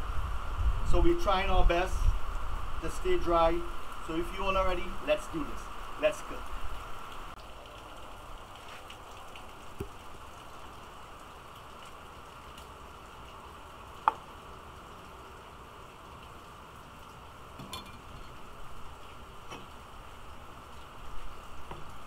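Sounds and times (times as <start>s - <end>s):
rain hiss: 0.0s - 22.0s.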